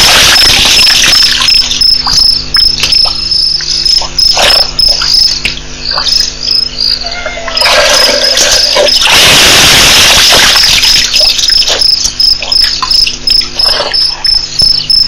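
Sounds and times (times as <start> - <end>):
cricket chirping: 0.0 - 15.0
steady low hum: 0.0 - 15.0.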